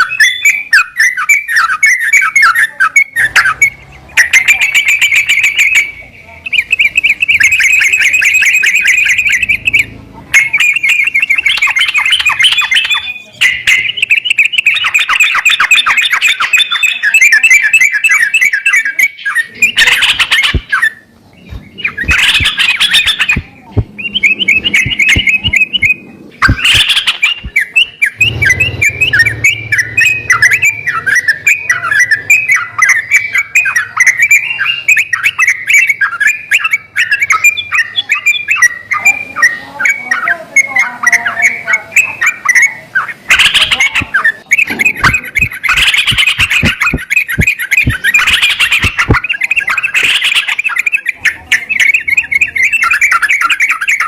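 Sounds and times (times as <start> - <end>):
bulbul chattering call: 0.0 - 54.0.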